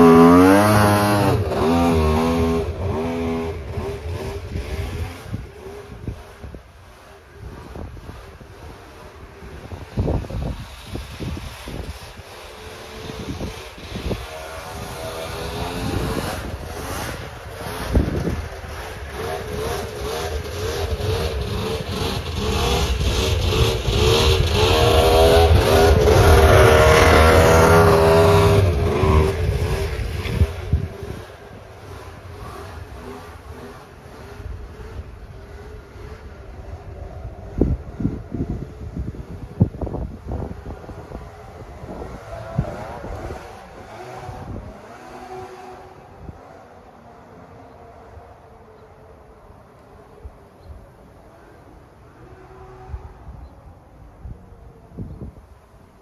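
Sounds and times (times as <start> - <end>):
snowmobile engine passing by: 0.0 - 53.5.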